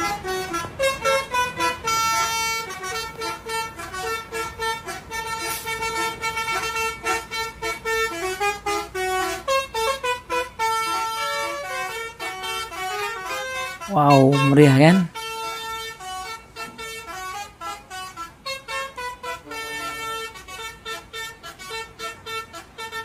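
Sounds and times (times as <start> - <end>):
multi-note air horns tooting: 0.0 - 23.0.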